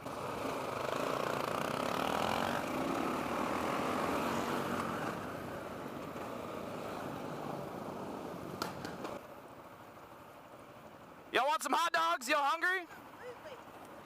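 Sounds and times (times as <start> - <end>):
motorcycle engines running: 0.0 - 11.3.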